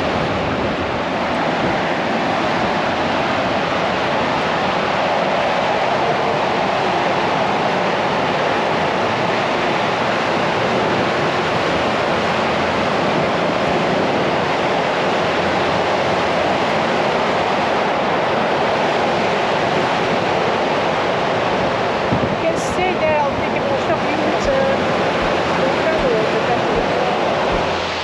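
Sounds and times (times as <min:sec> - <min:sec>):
ocean surf rushing: 0:00.0 - 0:28.0
wind on microphone: 0:00.0 - 0:28.0.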